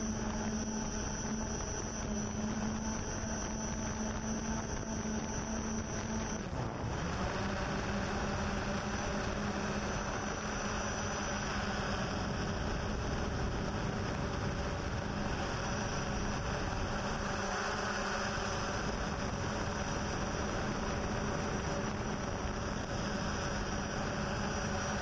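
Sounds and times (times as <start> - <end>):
drone propellers whirring: 0.0 - 25.0.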